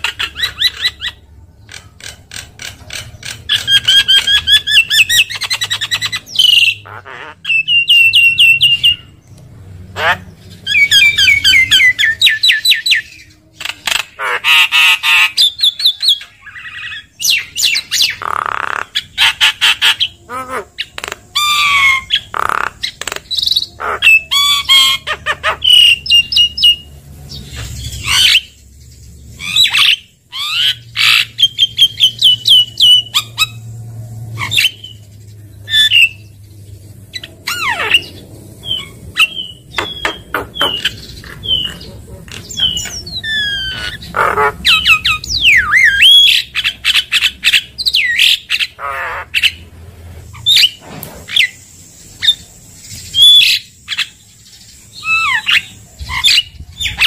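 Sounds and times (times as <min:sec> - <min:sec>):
myna bird singing: 0:00.0 - 0:57.0.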